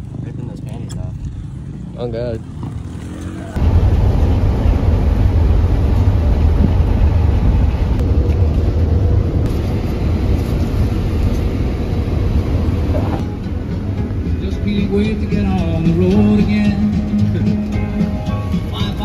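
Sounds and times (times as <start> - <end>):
road and engine rumble in van: 0.0 - 19.0.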